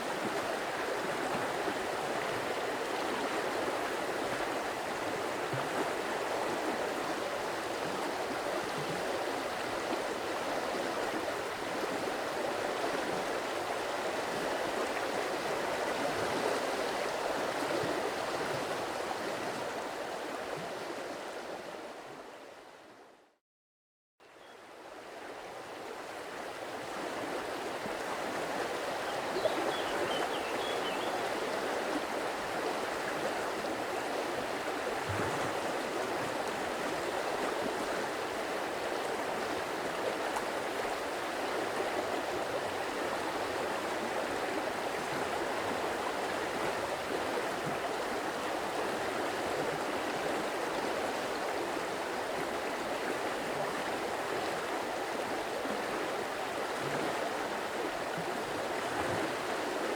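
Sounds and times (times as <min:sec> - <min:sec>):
stream water flowing and gurgling: 0:00.0 - 0:23.1, 0:24.6 - 0:59.9.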